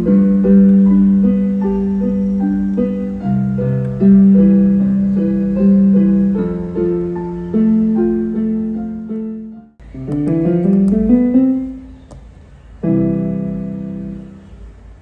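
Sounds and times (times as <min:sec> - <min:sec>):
electric keyboard playing piano: 0:00.0 - 0:14.8.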